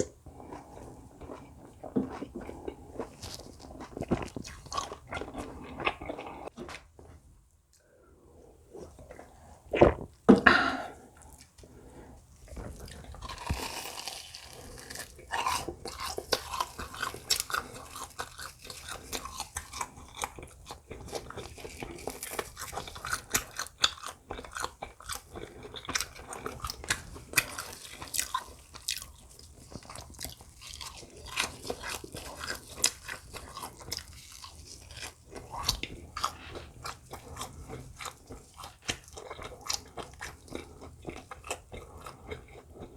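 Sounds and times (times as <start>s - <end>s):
person chewing crunchy food: 0.0s - 6.8s, 8.7s - 42.9s.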